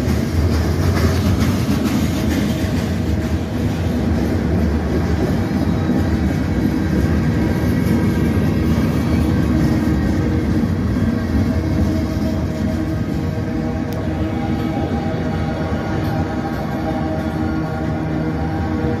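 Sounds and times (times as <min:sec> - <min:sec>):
freight train wheels rumbling on rails: 0:00.0 - 0:19.0.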